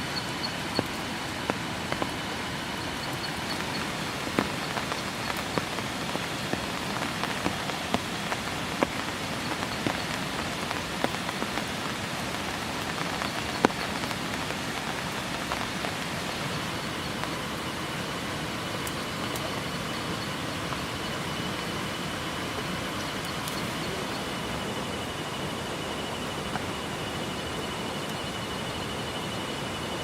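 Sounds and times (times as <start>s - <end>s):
heavy rain: 0.0s - 30.0s
raindrops ticking: 0.0s - 30.0s.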